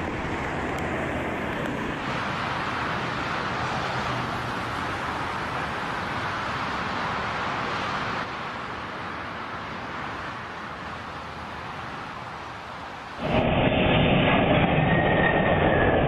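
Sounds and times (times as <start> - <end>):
rushing aircraft noise: 0.0 - 16.0.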